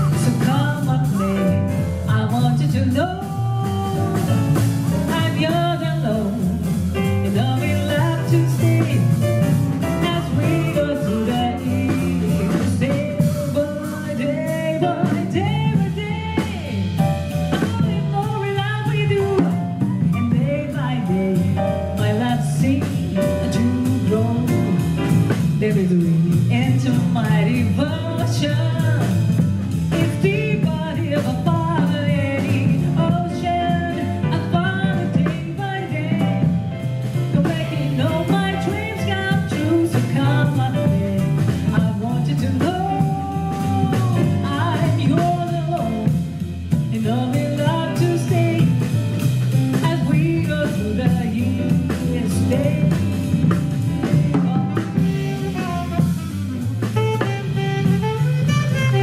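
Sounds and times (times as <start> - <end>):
jazz band accompaniment: 0.0 - 59.0
jazz singer: 0.0 - 59.0.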